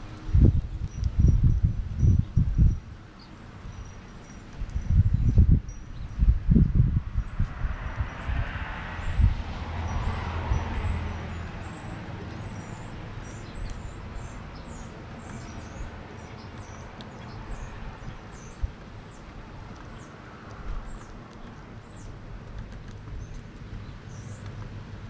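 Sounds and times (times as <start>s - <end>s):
low rumble of passing vehicle: 0.0s - 25.0s
small birds chirping: 0.0s - 25.0s.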